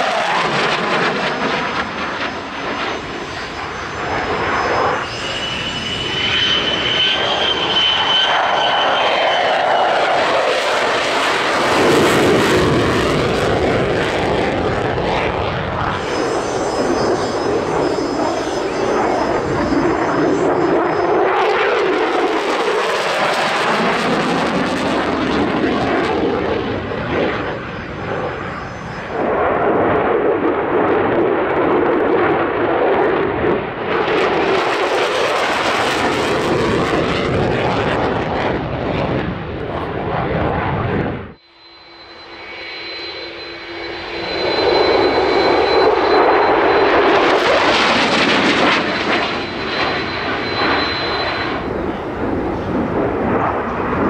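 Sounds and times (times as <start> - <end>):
fighter jets flying past: 0.0 - 54.0
high jet whine: 0.0 - 54.0.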